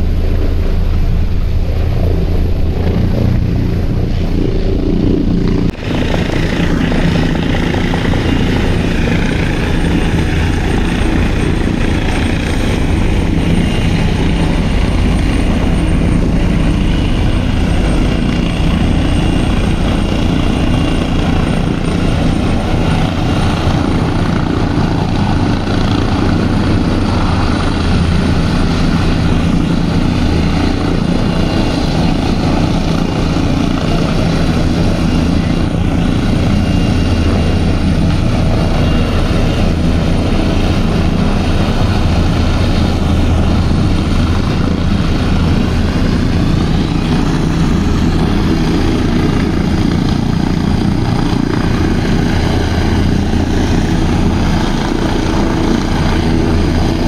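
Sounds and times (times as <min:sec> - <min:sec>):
helicopter rotors and engines: 0:00.0 - 0:57.0.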